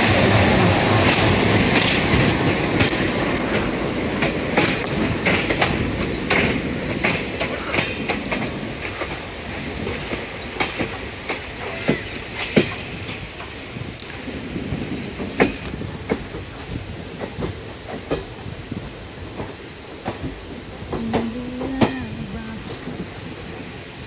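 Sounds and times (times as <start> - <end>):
wheels clicking over rail joints: 0.0 - 23.7
train running rumble: 0.0 - 24.0.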